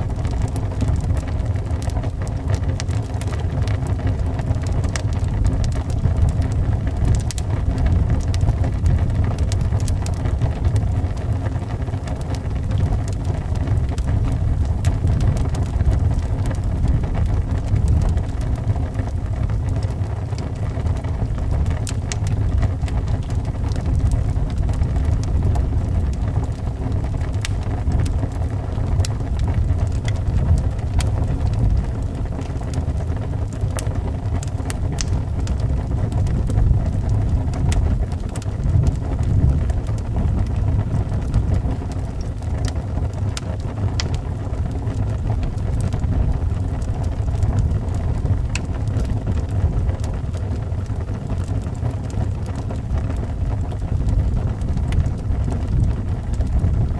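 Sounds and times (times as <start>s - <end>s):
howling wind: 0.0s - 56.9s
wood fire crackling and popping: 0.0s - 56.9s.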